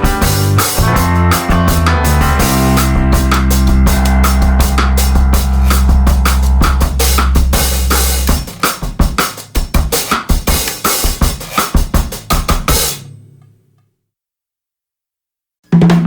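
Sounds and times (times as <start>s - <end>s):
music with drum-kit beat: 0.0s - 13.1s.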